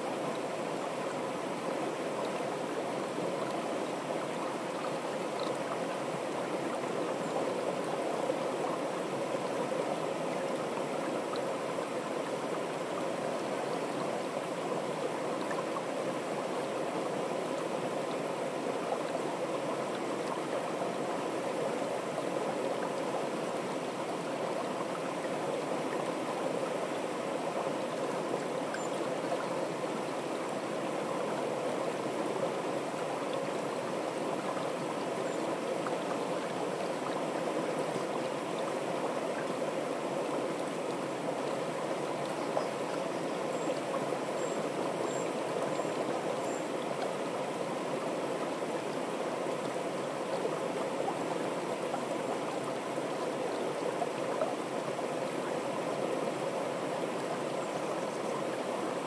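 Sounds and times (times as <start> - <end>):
creek rushing down channel: 0.0 - 59.0.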